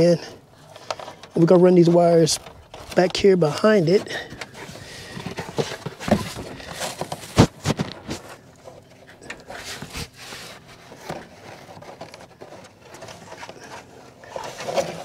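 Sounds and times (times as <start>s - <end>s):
wiring rustling in hands: 0.0s - 15.0s.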